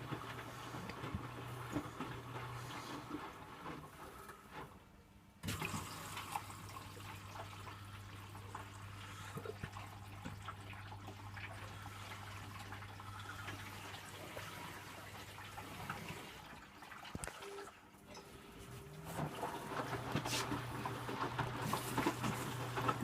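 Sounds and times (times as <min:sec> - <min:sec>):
washing machine filling with water: 0:00.0 - 0:23.0.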